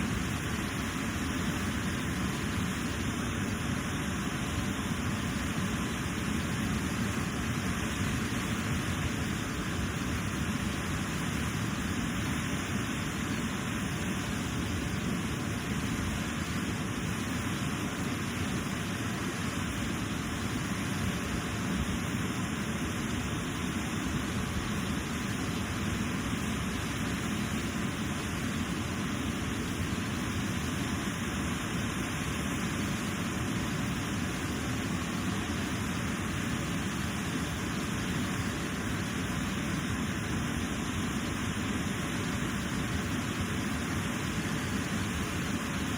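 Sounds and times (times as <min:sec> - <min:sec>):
rushing river water: 0:00.0 - 0:45.9.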